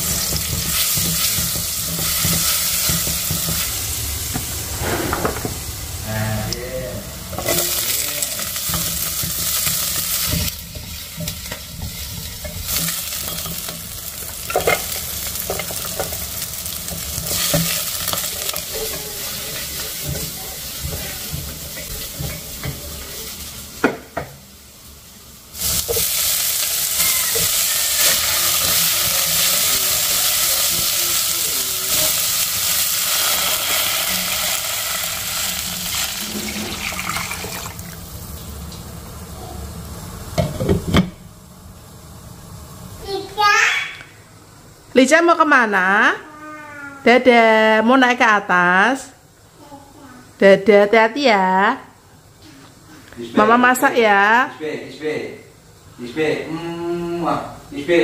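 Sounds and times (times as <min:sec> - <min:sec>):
vegetables and meat sizzling: 0:00.0 - 0:58.0.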